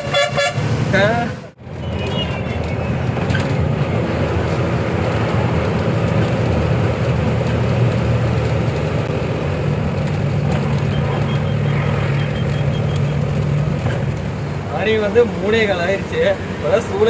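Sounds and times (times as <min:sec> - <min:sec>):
road rumble: 0:00.0 - 0:17.0
truck diesel engine drone: 0:00.0 - 0:17.0.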